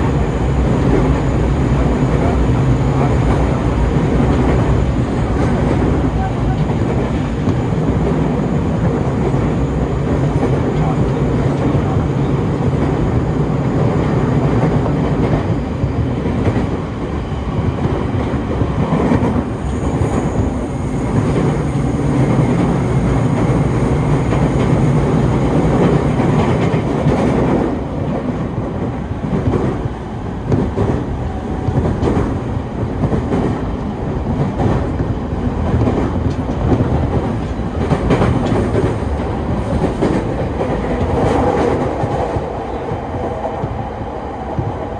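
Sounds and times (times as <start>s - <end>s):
rail-joint clickety-clack: 0.0s - 44.9s
train wheels rumbling on rail: 0.0s - 44.9s.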